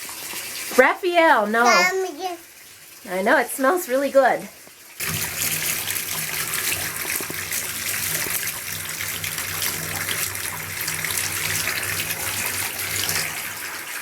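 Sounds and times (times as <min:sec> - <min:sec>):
bath tap running: 0:00.0 - 0:14.0.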